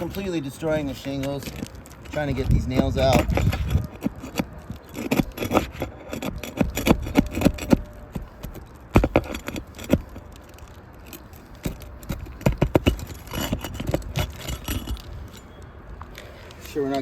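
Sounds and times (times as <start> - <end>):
metal bar prying nails: 0.0 - 15.6.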